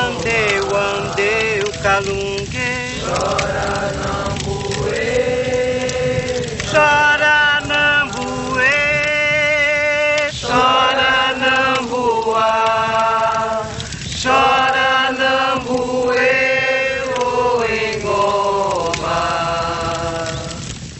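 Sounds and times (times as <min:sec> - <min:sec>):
voices chanting a refrain: 0:00.0 - 0:20.8.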